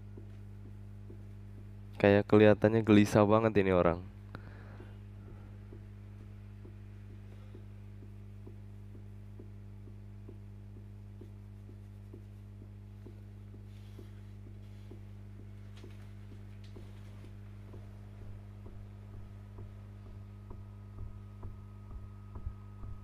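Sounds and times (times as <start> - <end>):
soft regular ticking: 0.0 - 2.9, 4.1 - 23.0
steady low hum: 0.0 - 23.0.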